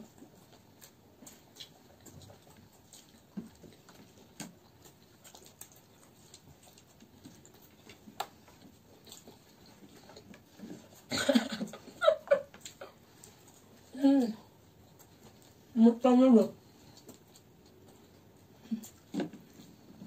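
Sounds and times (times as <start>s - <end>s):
people chewing fries: 0.0s - 15.8s, 16.4s - 20.0s.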